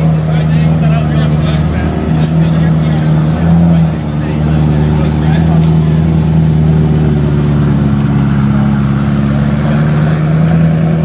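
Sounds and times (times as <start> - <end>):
car engine pulling away slowly: 0.0 - 11.0.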